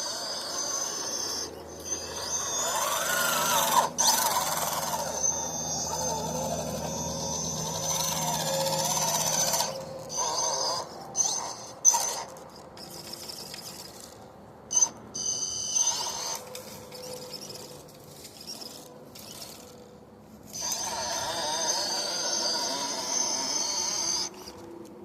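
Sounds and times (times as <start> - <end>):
electric motor whining: 0.0 - 14.2, 14.8 - 24.7.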